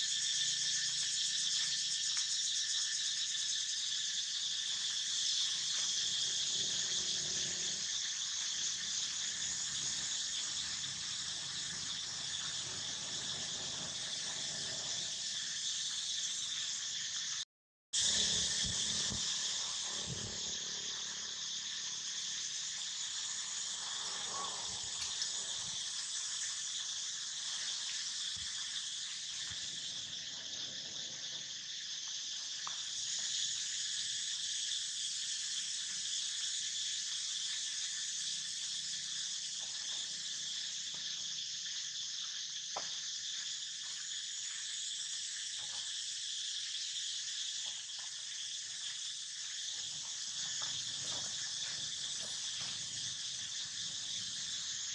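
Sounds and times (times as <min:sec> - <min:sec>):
insect chorus drone: 0:00.0 - 0:54.9.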